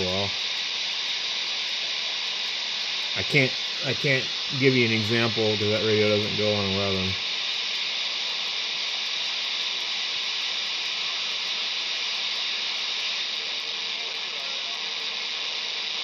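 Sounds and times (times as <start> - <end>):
radio receiver static hiss: 0.0 - 16.0.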